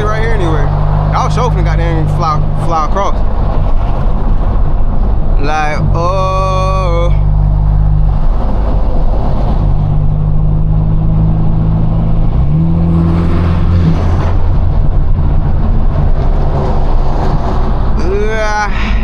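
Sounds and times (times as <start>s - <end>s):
car engine accelerating loudly: 0.0s - 19.0s.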